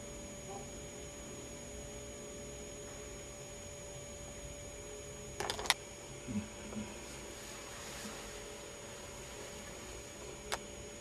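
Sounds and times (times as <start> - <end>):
faint high whine: 0.0 - 11.0
low electrical hum: 0.0 - 11.0.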